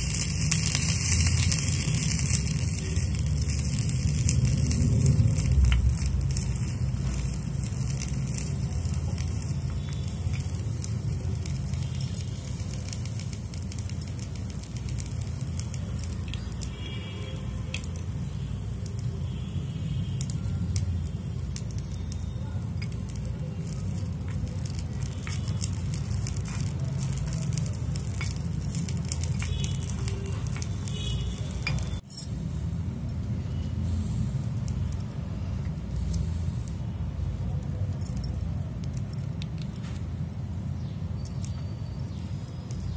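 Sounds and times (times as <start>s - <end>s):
food sizzling in iron pan: 0.0s - 42.9s
wood fire crackling: 0.0s - 42.9s.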